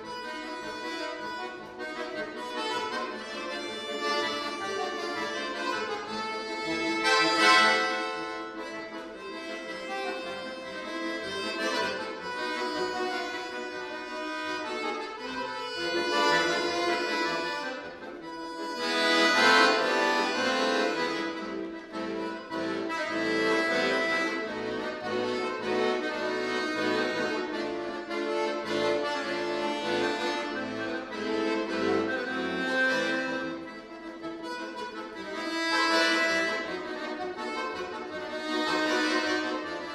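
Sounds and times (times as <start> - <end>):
button accordion playing: 0.0 - 39.9.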